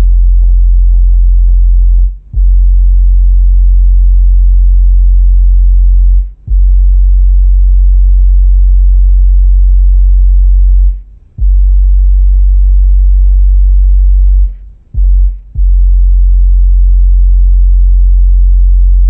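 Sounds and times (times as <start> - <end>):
deep bass test tone: 0.0 - 19.0.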